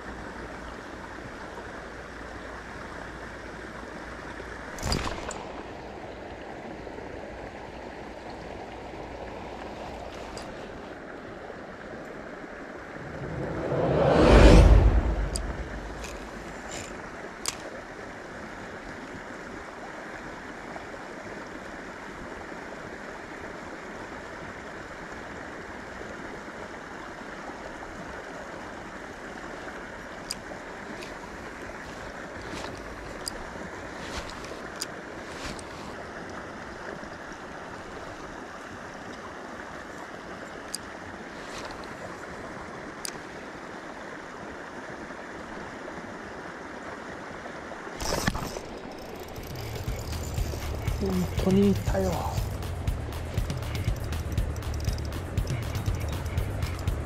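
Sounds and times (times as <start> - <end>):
water flowing in a channel: 0.0 - 57.0.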